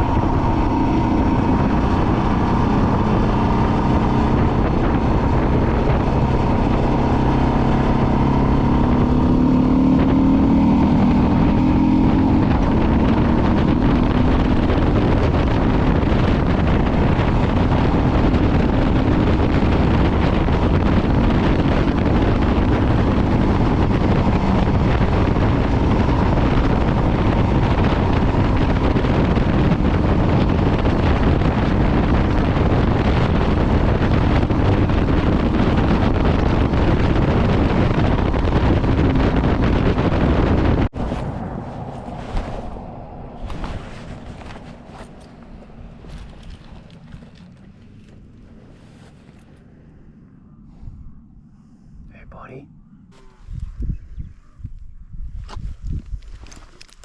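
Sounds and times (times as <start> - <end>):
motorcycle engine accelerating: 0.0 - 51.6
wind noise on microphone: 0.0 - 57.0.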